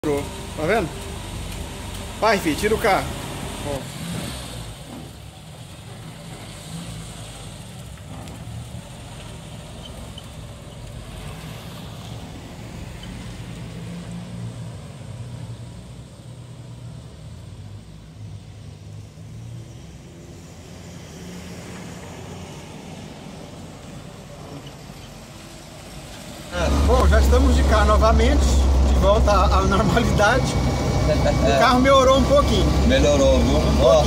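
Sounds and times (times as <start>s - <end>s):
car engine driving: 0.0s - 34.0s.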